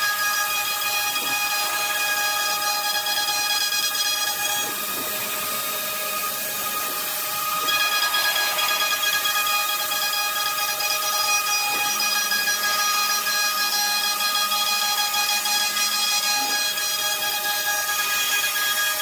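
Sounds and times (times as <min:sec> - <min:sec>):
router spindle whine: 0:00.0 - 0:19.0.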